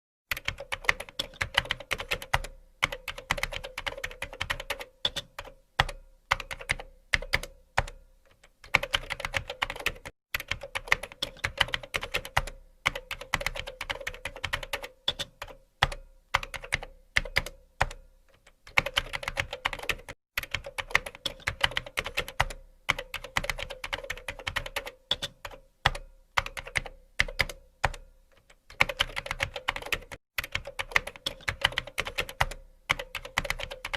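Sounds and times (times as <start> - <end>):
fast typing on keyboard: 0.3 - 8.0, 8.6 - 18.0, 18.7 - 28.0, 28.7 - 33.9.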